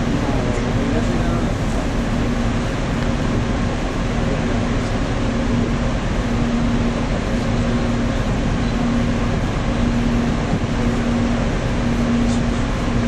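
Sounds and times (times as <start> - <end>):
pulsing low hum: 0.0 - 13.0
ship rumbling: 0.0 - 13.0.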